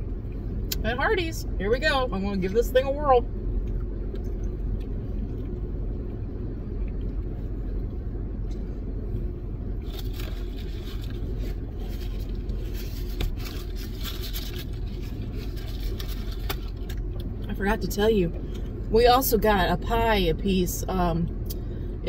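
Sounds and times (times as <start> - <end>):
car idling: 0.0 - 22.0.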